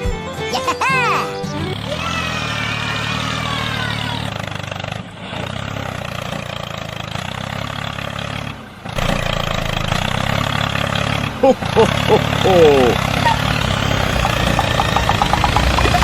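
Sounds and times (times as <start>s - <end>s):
tractor engine running: 1.3s - 16.0s.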